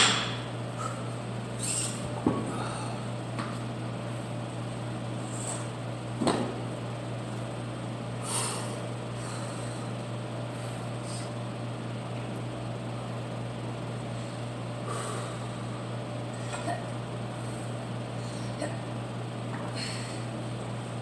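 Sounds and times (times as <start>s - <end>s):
steady low room hum: 0.0s - 21.0s.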